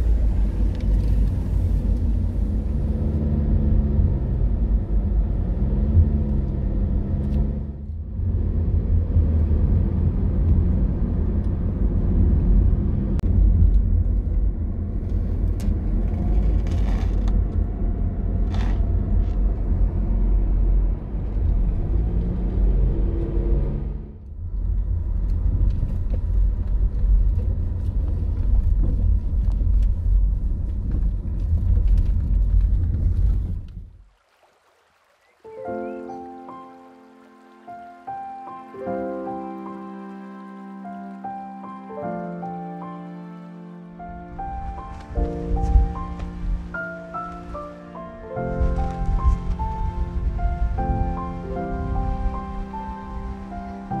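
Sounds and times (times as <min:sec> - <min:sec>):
car engine and tyre rumble: 0:00.0 - 0:34.3, 0:35.8 - 0:54.0.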